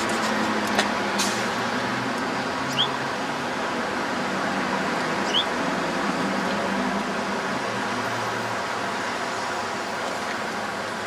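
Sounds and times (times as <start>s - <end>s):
city traffic noise: 0.0s - 11.0s.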